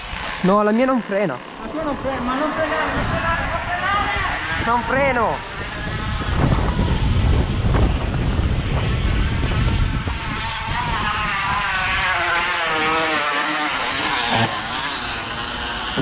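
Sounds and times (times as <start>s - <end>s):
bottle buzzing against bicycle spokes: 0.0s - 16.0s
wind rumble on microphone: 0.0s - 16.0s.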